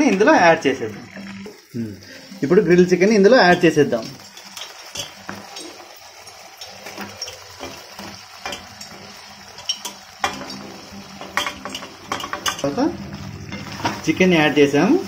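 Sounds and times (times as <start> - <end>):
bubbling gravy hiss: 0.0 - 15.0.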